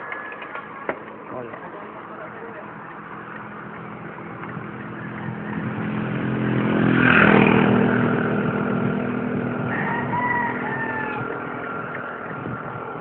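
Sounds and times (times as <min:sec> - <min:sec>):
vehicle engine passing by: 0:00.0 - 0:13.0.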